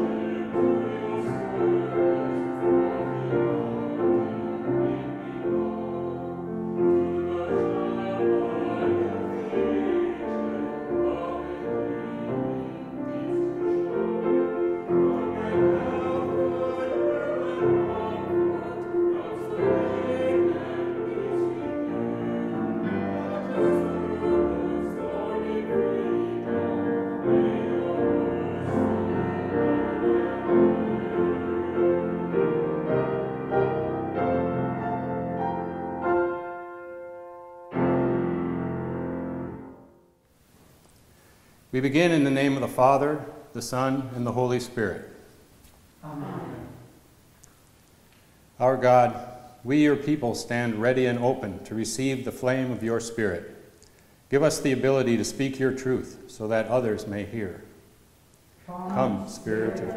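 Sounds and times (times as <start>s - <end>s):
hymn on grand piano: 0.0s - 45.4s, 46.0s - 59.9s.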